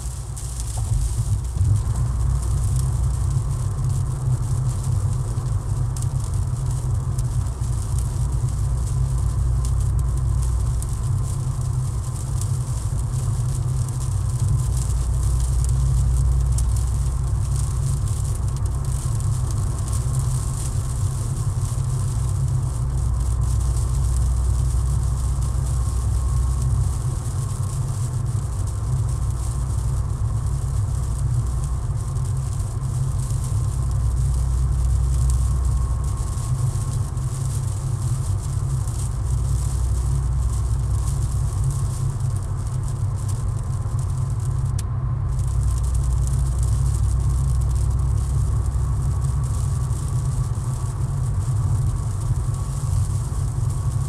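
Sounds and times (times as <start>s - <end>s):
engine and road rumble: 0.0s - 54.0s
rain and tyres hissing: 0.0s - 54.0s.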